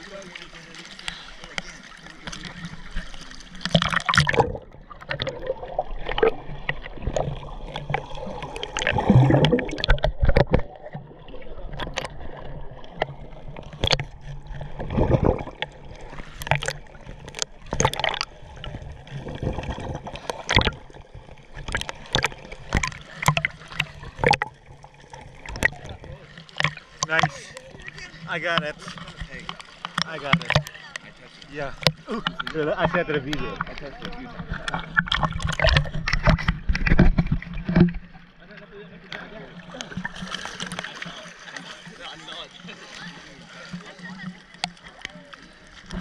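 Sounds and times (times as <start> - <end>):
water splashing and gurgling: 0.0 - 46.0.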